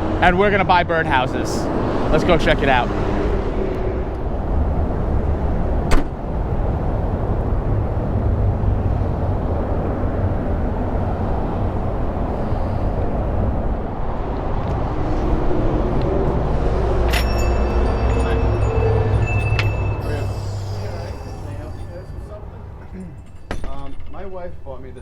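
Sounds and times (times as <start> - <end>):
highway traffic rumble: 0.0 - 25.0.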